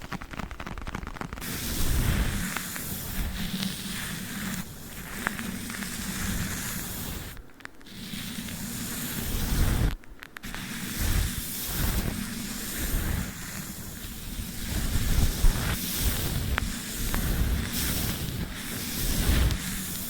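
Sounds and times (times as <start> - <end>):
scratchy rustling on microphone: 0.0 - 20.0.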